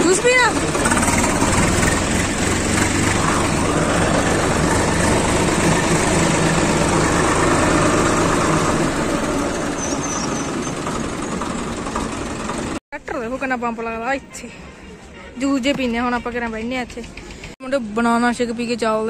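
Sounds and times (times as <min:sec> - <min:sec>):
tractor diesel engine running: 0:00.0 - 0:13.8, 0:15.7 - 0:19.0.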